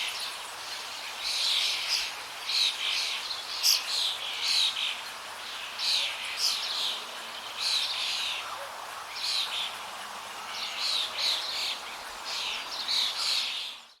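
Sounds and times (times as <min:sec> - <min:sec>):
water rushing: 0:00.0 - 0:13.8.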